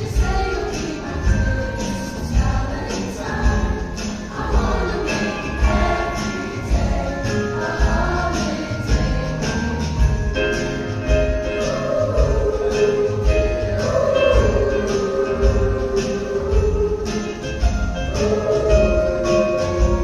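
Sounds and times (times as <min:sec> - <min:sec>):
choir singing: 0:00.0 - 0:20.0
rattling sleigh chimes: 0:00.0 - 0:20.0
steady beat: 0:00.0 - 0:20.0.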